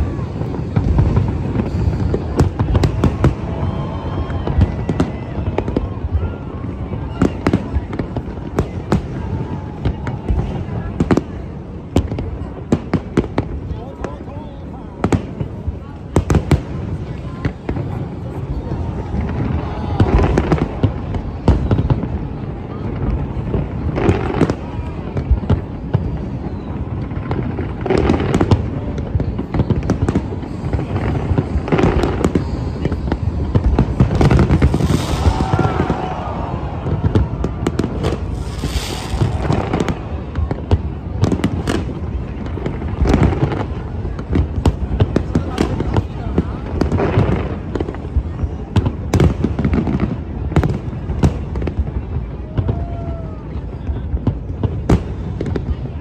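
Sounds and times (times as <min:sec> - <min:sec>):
fireworks booming and cracking: 0:00.0 - 0:56.0.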